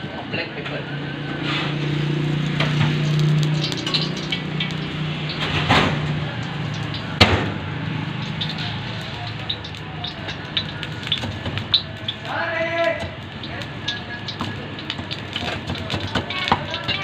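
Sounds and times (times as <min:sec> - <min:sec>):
wok frying: 0:01.1 - 0:17.0.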